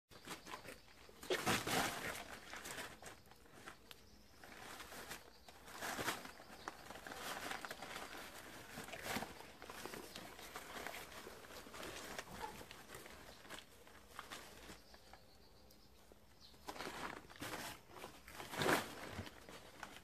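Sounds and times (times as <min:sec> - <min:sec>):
newspaper rustling and crinkling: 0:00.1 - 0:15.4, 0:16.3 - 0:20.0.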